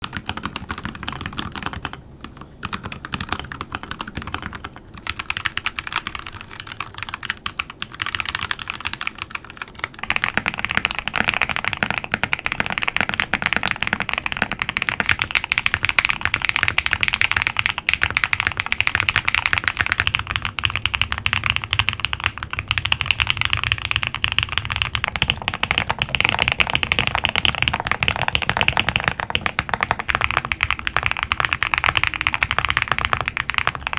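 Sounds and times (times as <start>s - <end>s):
fast typing on mechanical keyboards: 0.0s - 33.9s.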